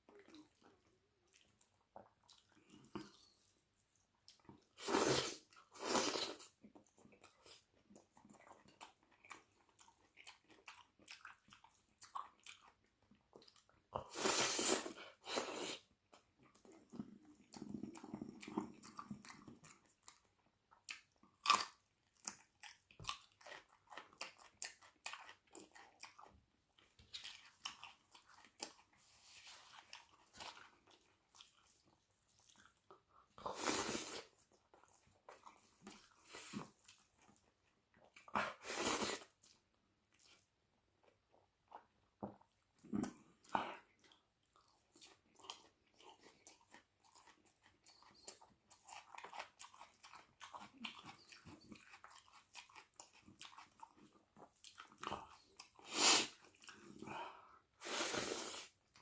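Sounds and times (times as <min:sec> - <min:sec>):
wet chewing: 0:00.0 - 0:57.7.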